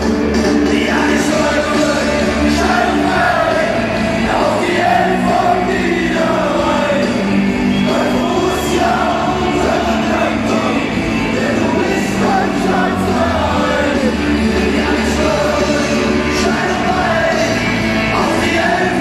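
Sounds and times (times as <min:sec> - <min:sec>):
crowd rumble: 0:00.0 - 0:19.0
crowd singing a chant: 0:00.0 - 0:19.0.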